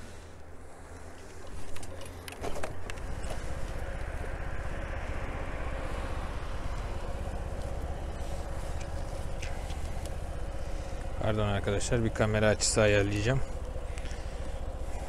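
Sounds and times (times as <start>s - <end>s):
motorcycle engine running: 2.0s - 15.0s.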